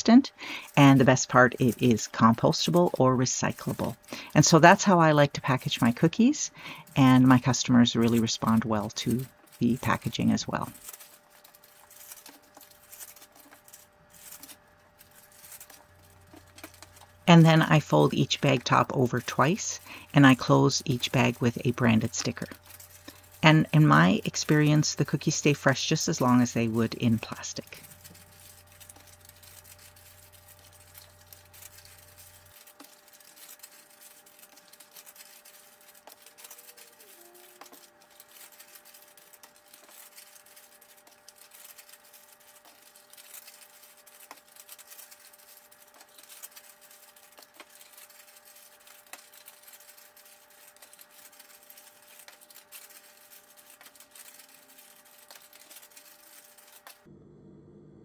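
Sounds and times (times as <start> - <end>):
steady low hum: 0.0 - 58.0
paper bags rustling: 0.3 - 57.1.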